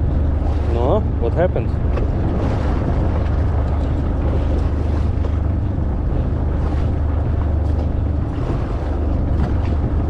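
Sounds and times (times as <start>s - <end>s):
boat engine rumble: 0.0s - 10.0s
water noise: 0.0s - 10.0s
wind buffeting microphone: 0.0s - 10.0s.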